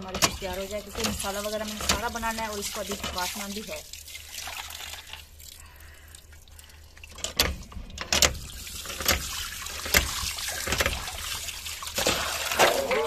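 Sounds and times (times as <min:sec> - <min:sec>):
water pouring from pump spout: 0:00.0 - 0:13.0
sharp water splashes: 0:00.2 - 0:07.2, 0:08.3 - 0:13.0.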